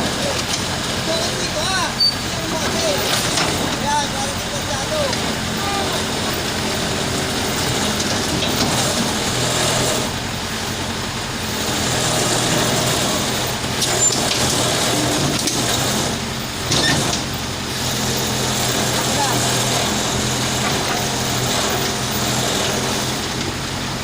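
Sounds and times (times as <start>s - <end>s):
heavy machine engine running: 0.0s - 24.0s.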